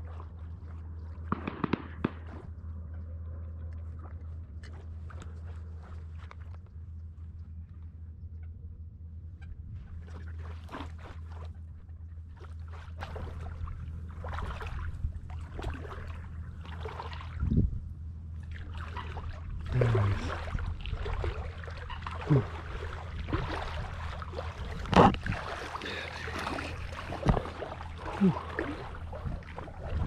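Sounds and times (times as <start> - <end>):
water sloshing and splashing: 0.0 - 8.0, 9.6 - 30.0
steady low rumble: 0.0 - 30.0.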